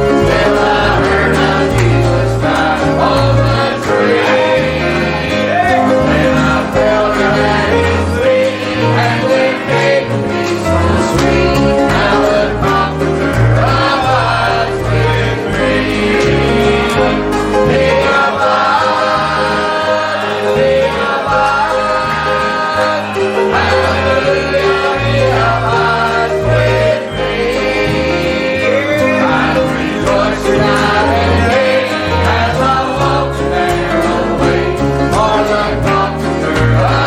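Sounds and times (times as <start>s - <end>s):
band with bass line: 0.0s - 37.0s
gospel choir singing: 0.0s - 37.0s.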